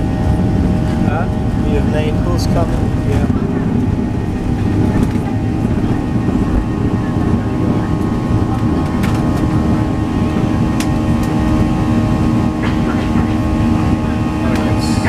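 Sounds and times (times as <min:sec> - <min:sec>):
airliner cabin engine rush: 0:00.0 - 0:15.0
steady hum tones: 0:00.0 - 0:15.0.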